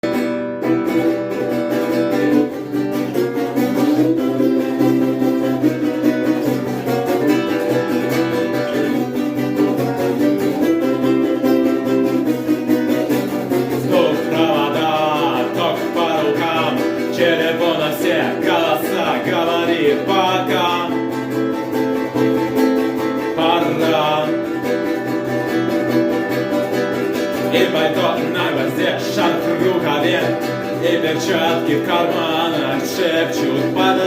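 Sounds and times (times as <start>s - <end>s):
guitar strumming chords: 0.0s - 34.0s
person singing: 0.6s - 12.4s, 13.0s - 34.0s.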